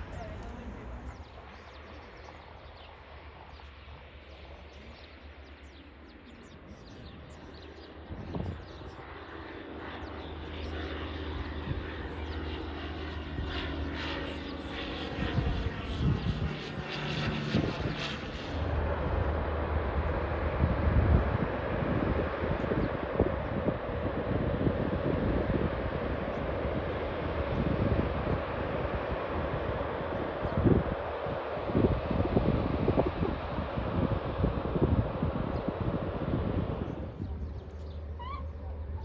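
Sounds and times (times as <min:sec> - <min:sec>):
propeller aircraft engine drone: 0:00.0 - 0:39.0
wind buffeting microphone: 0:00.0 - 0:39.0.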